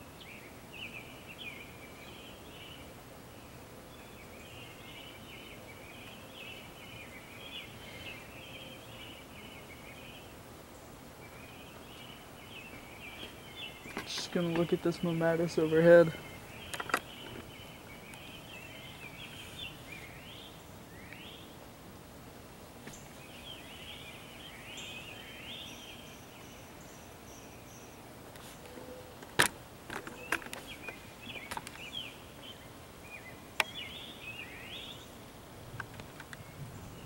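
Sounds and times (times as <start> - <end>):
birds chirping: 0.0 - 21.8, 22.5 - 37.0.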